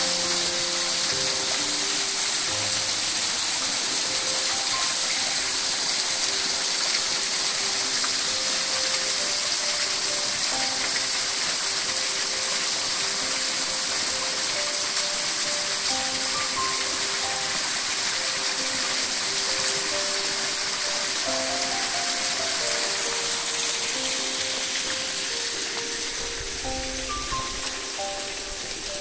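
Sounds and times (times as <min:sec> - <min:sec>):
soft background music: 0:00.0 - 0:29.0
water splashing into a pool: 0:00.0 - 0:29.0.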